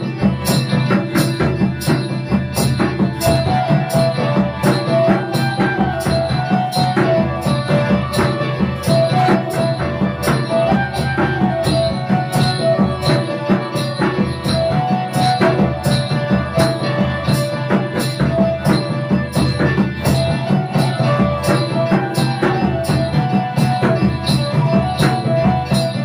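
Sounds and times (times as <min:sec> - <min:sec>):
bamboo flute folk melody: 0:00.0 - 0:26.0
hand drum beat: 0:00.0 - 0:26.0.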